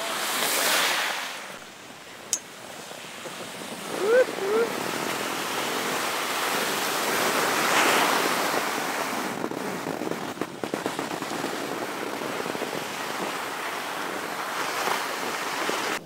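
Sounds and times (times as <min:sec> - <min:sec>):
skis scraping on snow: 0:00.0 - 0:01.6, 0:02.6 - 0:16.0
wind rushing past microphone: 0:00.1 - 0:16.0.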